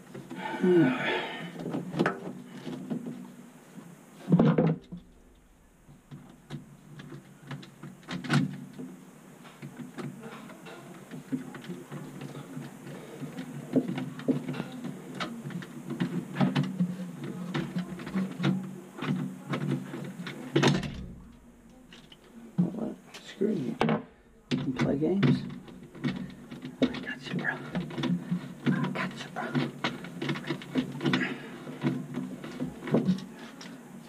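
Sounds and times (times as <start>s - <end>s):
clicks knocks and rubbing: 4.2s - 34.0s.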